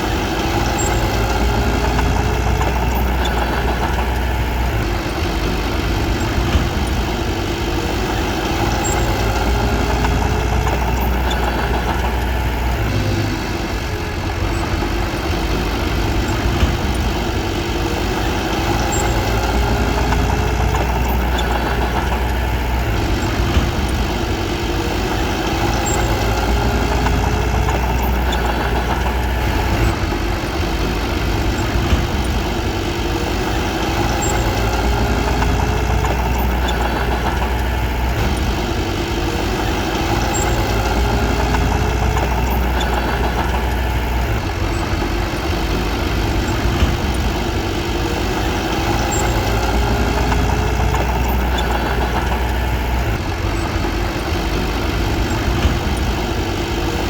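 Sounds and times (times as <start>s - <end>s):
bulldozer diesel engine rumbling: 0.0s - 57.0s.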